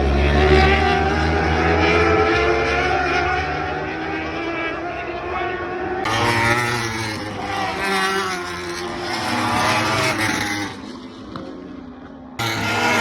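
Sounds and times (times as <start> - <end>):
motorcycle engines at high revs: 0.0 - 13.0.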